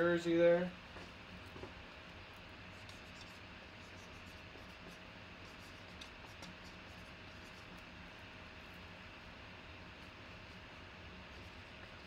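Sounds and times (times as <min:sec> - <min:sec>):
thin constant hum: 0:00.0 - 0:12.0.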